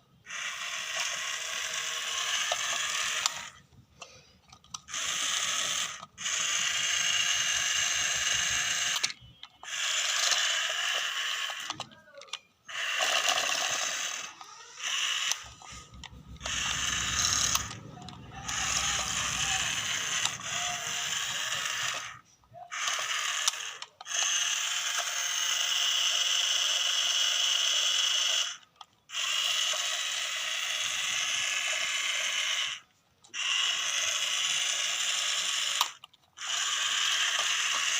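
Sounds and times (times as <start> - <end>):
toy electric motors whirring: 0.0 - 37.9.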